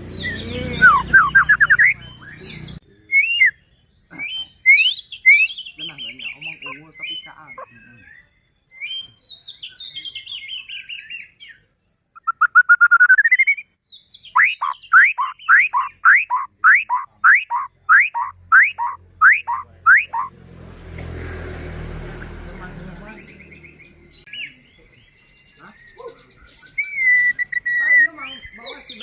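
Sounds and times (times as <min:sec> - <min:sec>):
bird singing: 0:00.0 - 0:20.4, 0:21.0 - 0:29.0.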